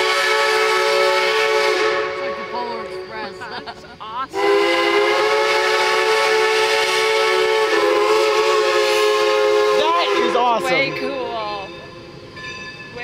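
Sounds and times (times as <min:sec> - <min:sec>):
steam locomotive whistle: 0:00.0 - 0:03.6, 0:04.3 - 0:13.0.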